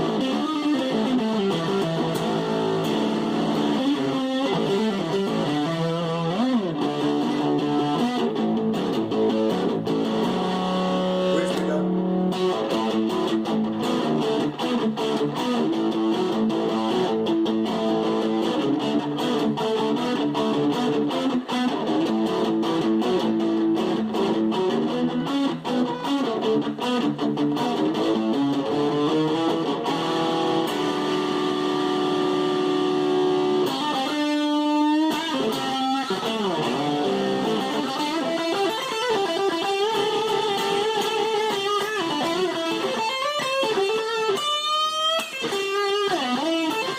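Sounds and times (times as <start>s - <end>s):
fuzz electric guitar lead lines: 0.0s - 46.9s.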